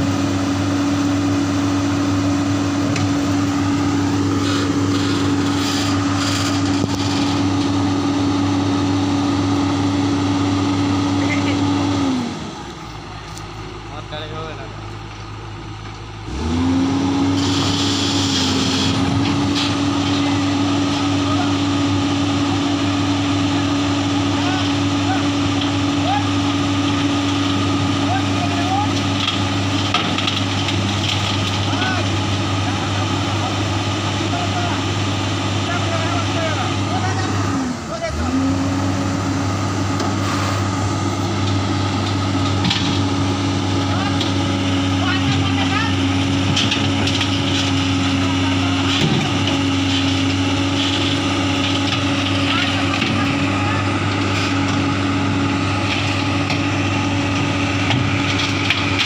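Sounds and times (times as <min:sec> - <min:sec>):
excavator diesel engine revving: 0:00.0 - 0:59.0.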